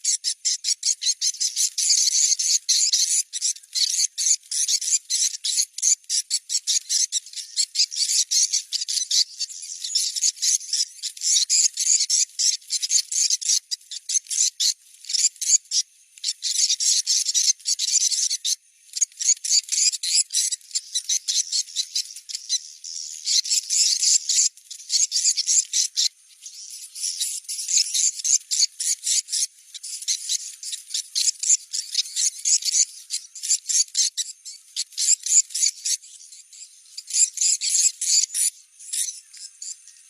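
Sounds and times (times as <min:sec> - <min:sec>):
recorded bird twittering: 0:00.0 - 0:40.0.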